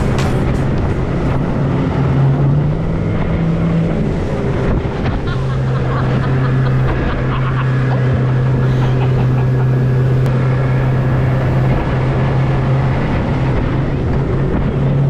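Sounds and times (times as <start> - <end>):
boat hull slapping water: 0.0 - 15.0
outboard motor running: 0.0 - 15.0.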